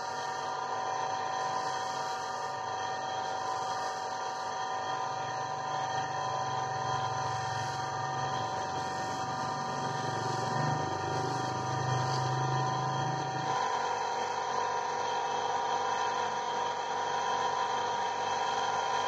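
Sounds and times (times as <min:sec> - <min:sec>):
bench motor humming: 0:00.0 - 0:15.4.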